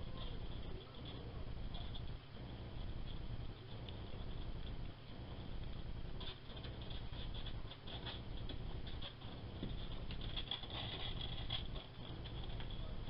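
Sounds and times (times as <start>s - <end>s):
bat clicks and rustles: 0.0s - 13.0s
low steady hum: 0.0s - 13.0s.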